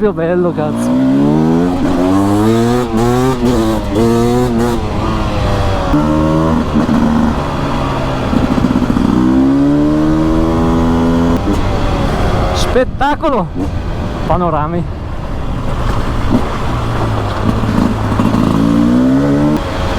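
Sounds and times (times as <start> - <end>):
two-stroke motorcycle engine revving: 0.4 - 12.9, 15.6 - 19.9.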